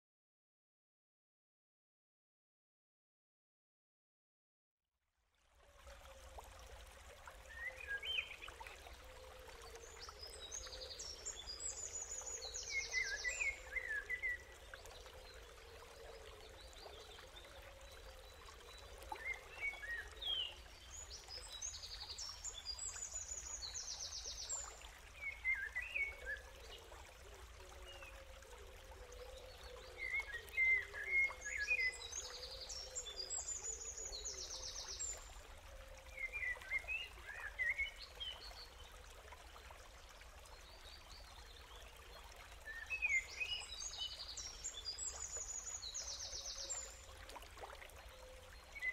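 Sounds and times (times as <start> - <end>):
trickling water: 5.2 - 48.9.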